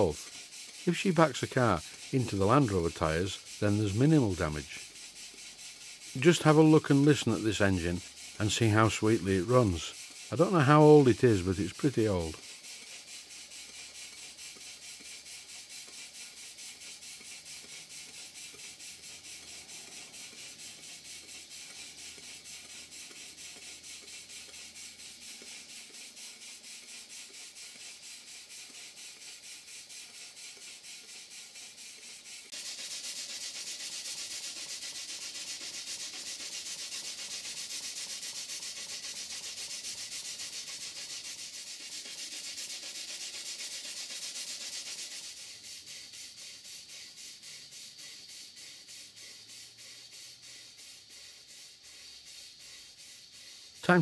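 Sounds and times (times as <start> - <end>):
steam engine rhythmic chuffing hiss: 0.0 - 54.0.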